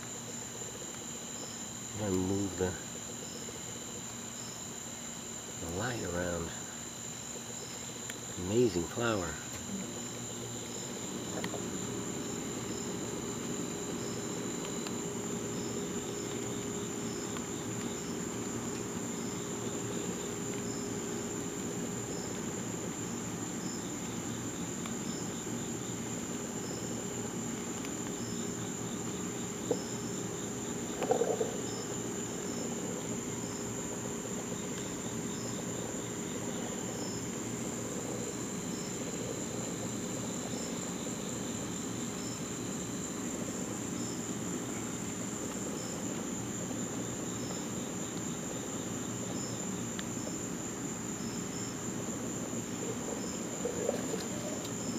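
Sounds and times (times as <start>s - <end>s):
crickets trilling: 0.0s - 54.9s
insect chirping: 0.0s - 54.9s
low steady hum: 0.0s - 54.9s.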